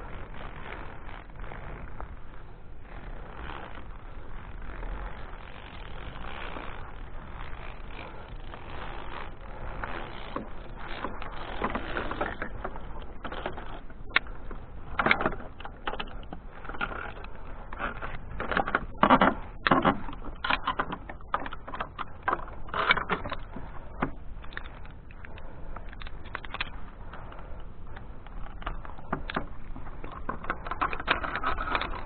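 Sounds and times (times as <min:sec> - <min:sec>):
carabiners clicking on steel cable: 0:00.0 - 0:32.0.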